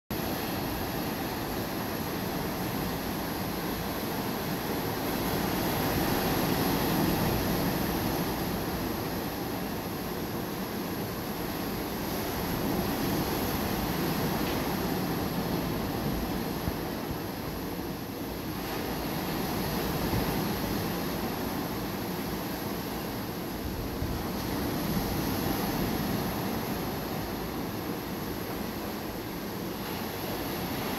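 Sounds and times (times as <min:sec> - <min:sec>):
waves washing up a beach: 0:00.1 - 0:30.9.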